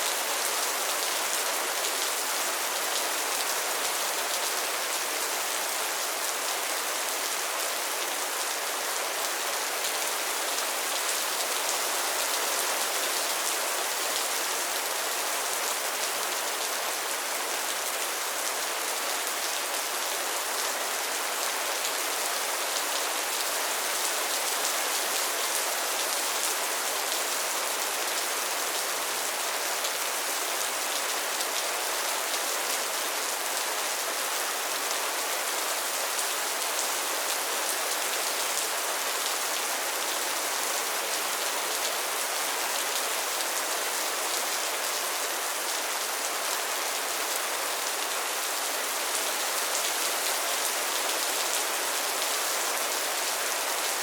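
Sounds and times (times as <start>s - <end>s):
rain falling on a pond: 0.0s - 54.0s.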